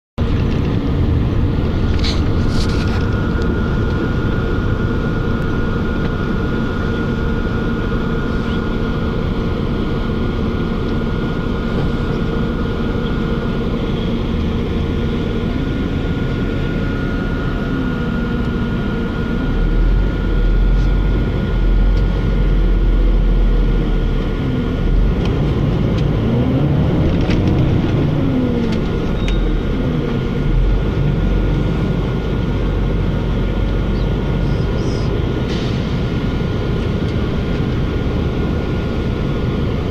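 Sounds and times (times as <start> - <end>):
bus engine: 0.0 - 39.9
road rumble: 0.2 - 39.9.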